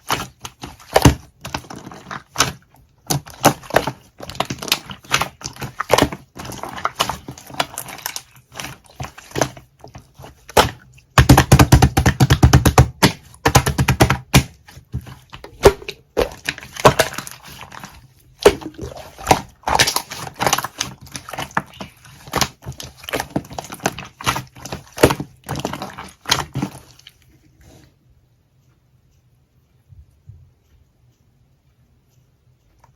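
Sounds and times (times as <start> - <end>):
sticky clicks of hand mixing: 0.0 - 29.5.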